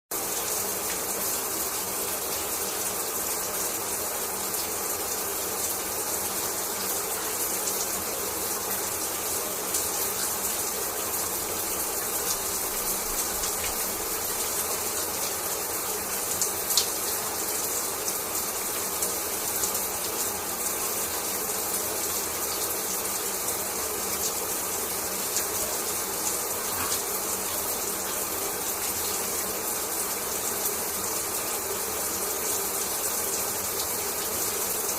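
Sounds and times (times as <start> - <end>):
shower water running: 0.1 - 34.9.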